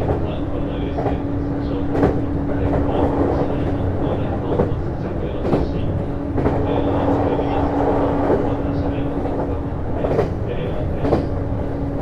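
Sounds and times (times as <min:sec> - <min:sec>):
train interior rumble and hum: 0:00.0 - 0:12.0.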